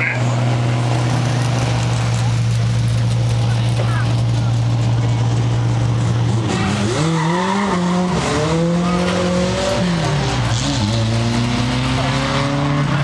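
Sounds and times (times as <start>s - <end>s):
race truck engines running hard: 0.0s - 13.0s.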